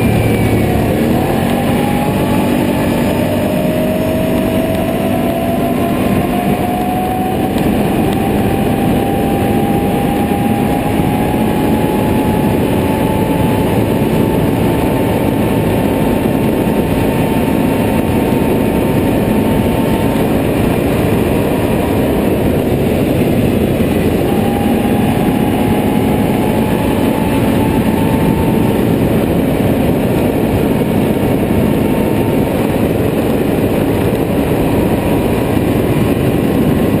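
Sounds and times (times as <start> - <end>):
atv engine running: 0.0 - 37.0
wind and tyre noise: 0.0 - 37.0.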